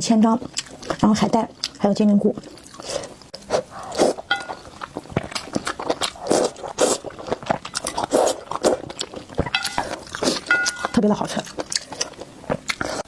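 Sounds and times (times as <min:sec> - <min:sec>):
person chewing noodles: 0:00.4 - 0:13.0.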